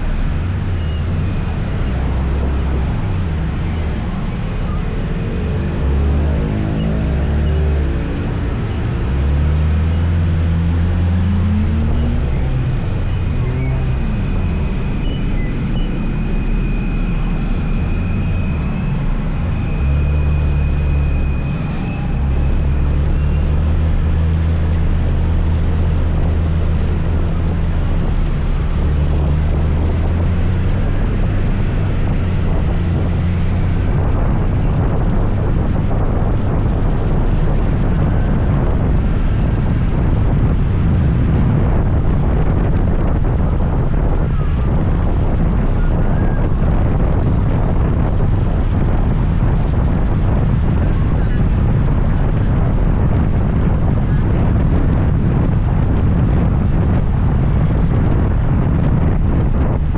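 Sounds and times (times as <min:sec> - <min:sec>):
road noise: 0:00.0 - 0:59.9
wind on microphone: 0:00.0 - 0:59.9.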